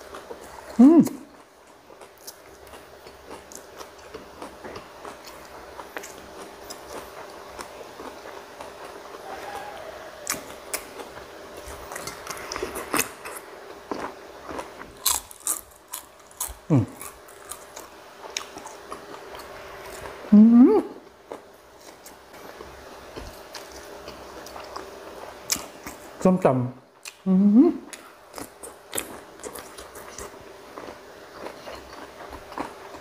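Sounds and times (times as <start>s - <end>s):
man chewing crunchy food: 0.0s - 20.3s, 21.0s - 26.2s, 27.9s - 33.0s.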